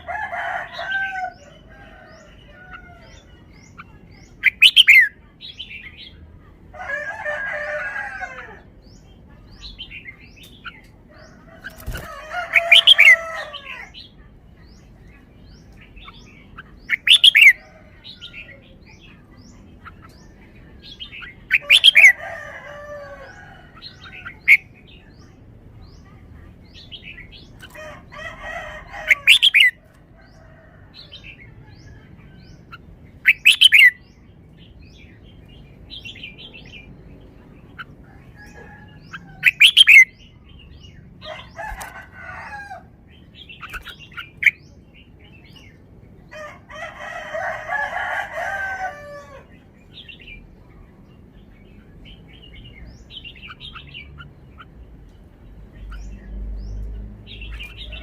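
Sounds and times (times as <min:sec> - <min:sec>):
bird singing sharp phrases: 0:00.8 - 0:06.4, 0:08.7 - 0:46.0, 0:49.5 - 0:58.0.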